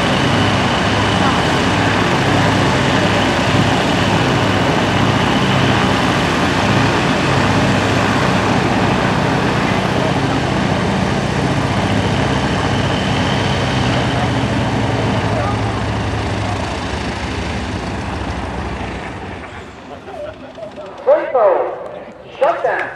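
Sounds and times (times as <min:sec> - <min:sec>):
radial aircraft engines idling: 0:00.0 - 0:22.9.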